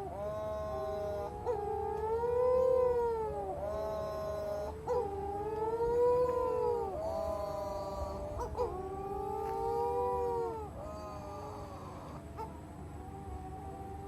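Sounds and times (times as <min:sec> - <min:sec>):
young petrels wailing: 0:00.0 - 0:14.0.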